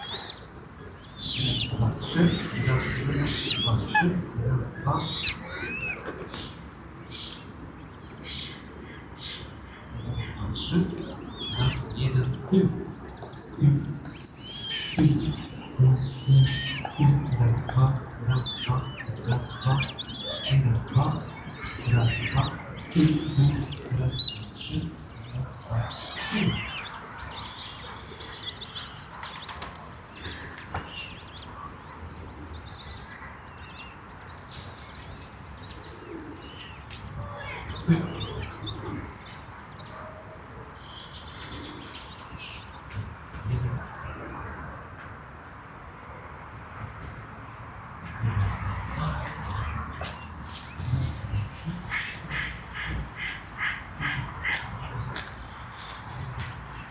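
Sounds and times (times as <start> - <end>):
small birds chirping: 0.0 - 46.1, 48.6 - 56.9.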